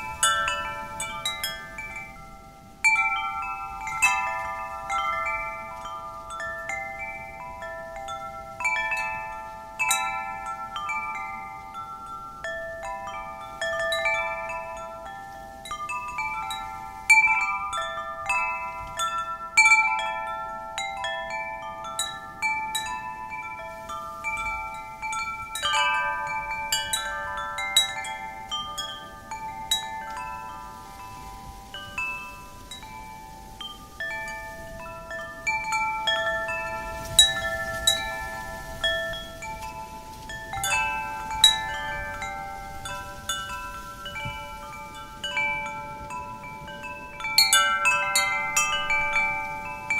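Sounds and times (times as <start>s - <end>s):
faint wind hiss: 0.0s - 49.9s
metal wind chimes ringing: 0.0s - 49.9s.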